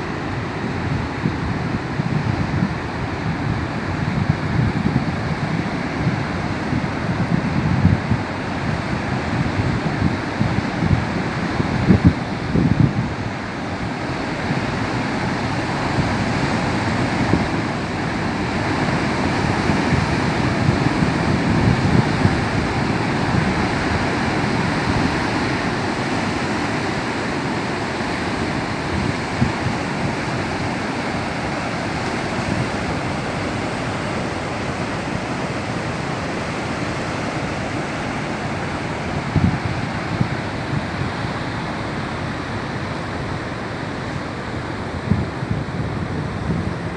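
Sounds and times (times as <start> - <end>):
waves breaking: 0.0 - 46.9
wind buffeting microphone: 0.0 - 46.9.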